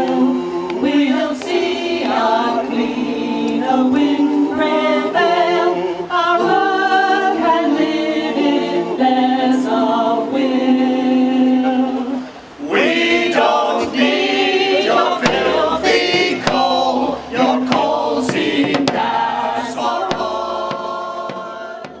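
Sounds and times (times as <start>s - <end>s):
women's choir singing: 0.0s - 22.0s.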